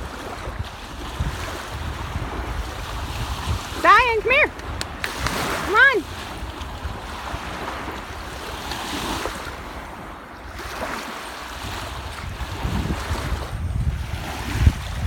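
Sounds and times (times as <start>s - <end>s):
surf washing onto beach: 0.0s - 15.0s
wind on microphone: 0.0s - 15.0s.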